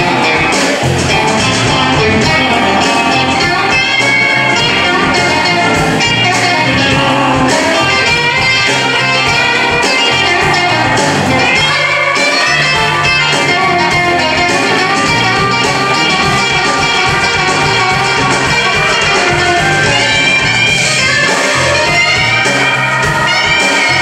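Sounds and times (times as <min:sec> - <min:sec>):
drum kit beat: 0:00.0 - 0:24.0
electric bass: 0:00.0 - 0:24.0
electric guitar: 0:00.0 - 0:24.0.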